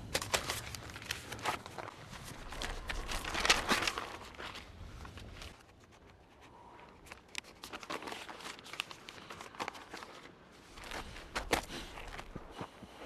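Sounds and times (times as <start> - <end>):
paper notepad crinkling: 0.0 - 6.2, 6.9 - 11.5.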